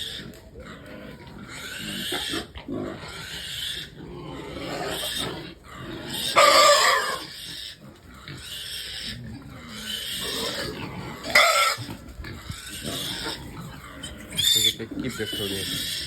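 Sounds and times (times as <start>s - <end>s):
piglets squealing: 1.4s - 16.0s.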